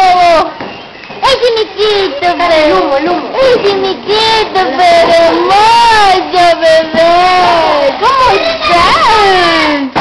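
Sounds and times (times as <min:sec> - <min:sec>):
high-pitched voices talking: 0:01.2 - 0:09.9.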